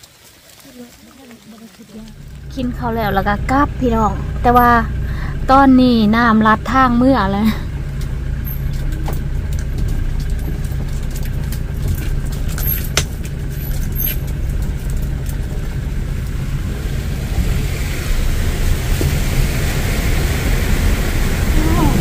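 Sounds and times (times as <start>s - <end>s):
motorbike engine running: 2.0s - 22.0s.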